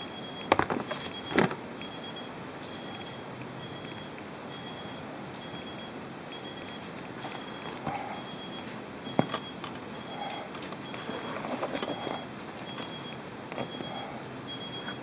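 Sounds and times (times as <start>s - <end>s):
two-tone electronic beep: 1.1s - 15.0s.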